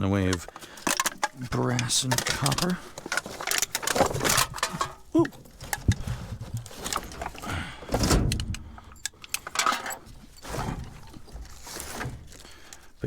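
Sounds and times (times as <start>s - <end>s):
metal scraping: 0.0s - 13.0s
scrap metal clinking: 0.1s - 13.0s
sharp metal clanks: 0.2s - 13.0s.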